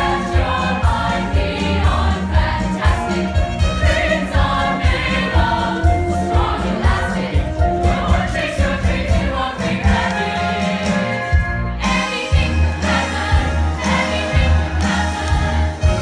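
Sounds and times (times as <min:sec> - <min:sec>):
musical accompaniment with steady beat: 0:00.0 - 0:16.0.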